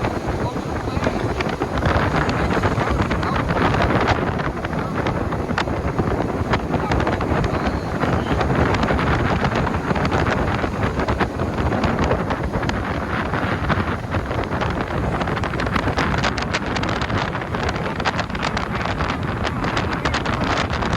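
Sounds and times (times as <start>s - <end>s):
motorboat running: 0.0s - 20.9s
wind buffeting microphone: 0.0s - 20.9s.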